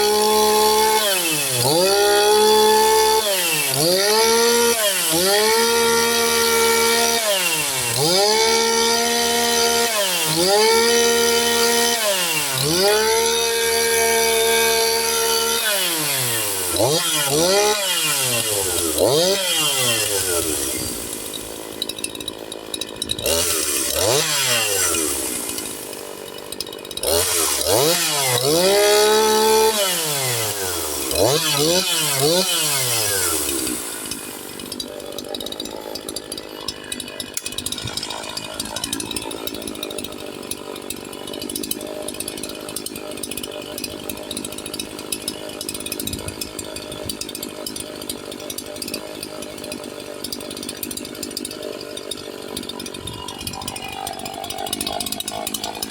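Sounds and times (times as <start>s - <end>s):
chainsaw engine revving and idling: 0.0s - 55.9s.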